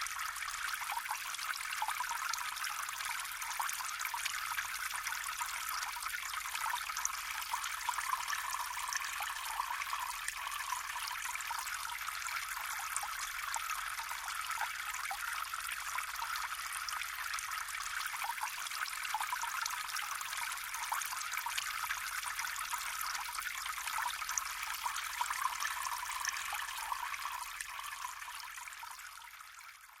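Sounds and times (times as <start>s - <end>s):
trickling bubbling stream: 0.0s - 30.0s.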